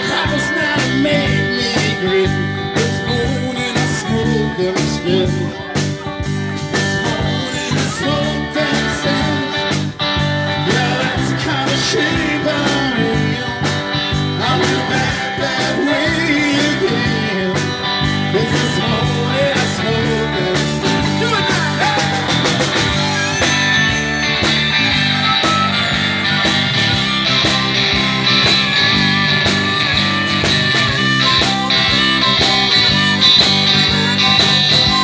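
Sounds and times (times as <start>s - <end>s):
blues-rock band playing: 0.0s - 35.0s
lead guitar bending pitch: 0.0s - 35.0s
harmonica: 6.6s - 35.0s.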